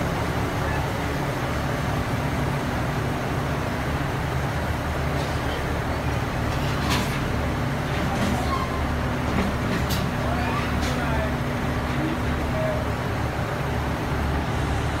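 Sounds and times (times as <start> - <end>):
train engine humming: 0.0 - 15.0.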